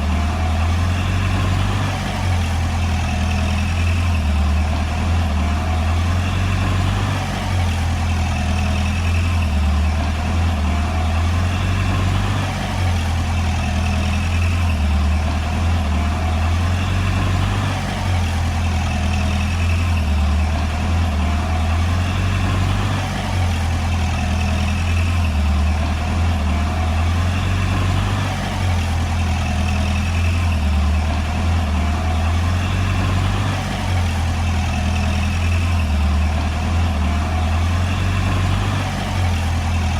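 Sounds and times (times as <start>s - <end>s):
bulldozer diesel engine rumbling: 0.0s - 39.9s.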